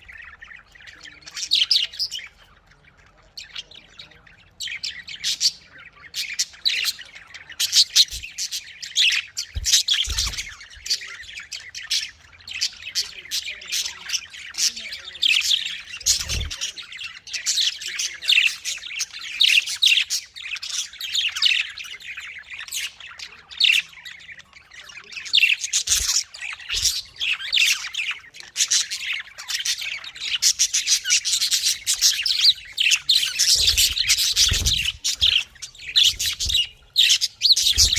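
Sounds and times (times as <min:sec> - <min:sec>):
budgerigars chattering and chirping: 0:00.0 - 0:37.9.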